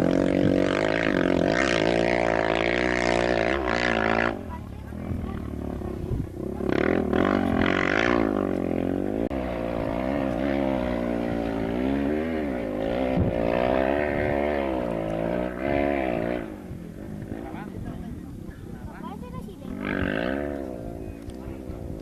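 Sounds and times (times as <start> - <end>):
engine revving hard: 0.0 - 17.6, 19.3 - 22.0.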